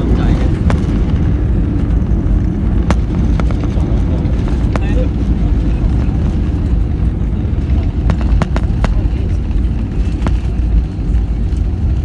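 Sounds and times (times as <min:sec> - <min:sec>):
airplane landing rumble: 0:00.0 - 0:12.0.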